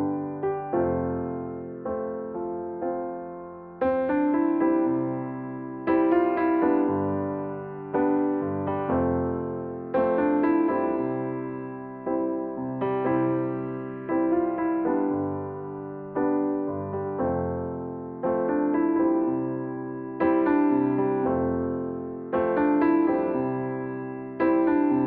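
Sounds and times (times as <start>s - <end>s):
slow solo piano chords: 0.0s - 25.0s.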